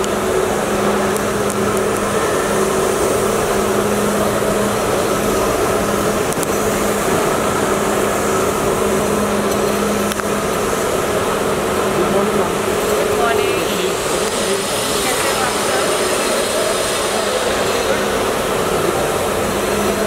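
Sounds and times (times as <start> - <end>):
steady mechanical drone: 0.0 - 20.0.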